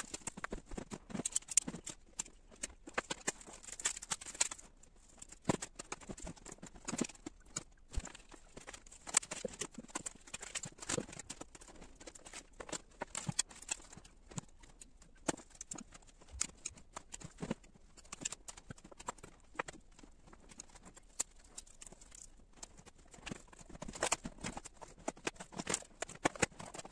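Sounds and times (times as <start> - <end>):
laptop parts clicking and knocking: 0.0 - 26.9.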